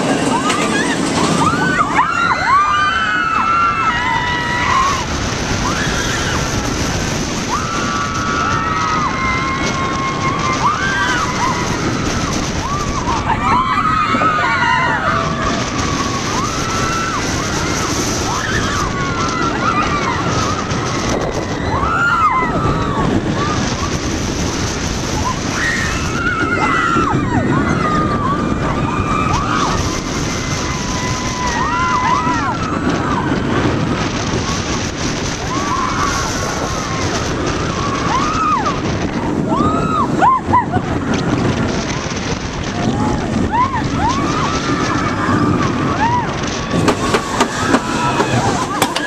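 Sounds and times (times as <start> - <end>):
riders screaming and yelling: 0.0 - 49.0
wind rushing on microphone: 0.0 - 49.0.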